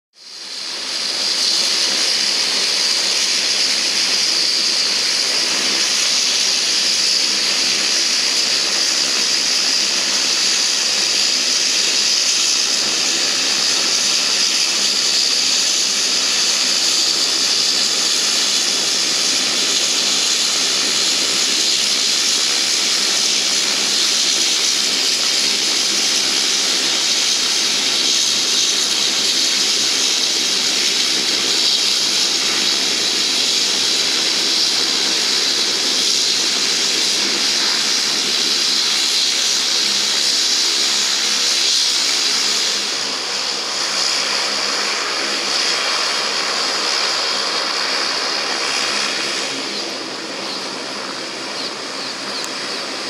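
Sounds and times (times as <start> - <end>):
turboprop engines whining: 0.2 - 53.0.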